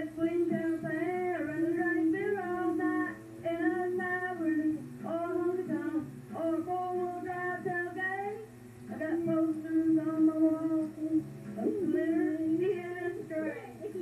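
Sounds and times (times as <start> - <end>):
backing music: 0.0 - 14.0
woman singing into microphone: 0.0 - 14.0.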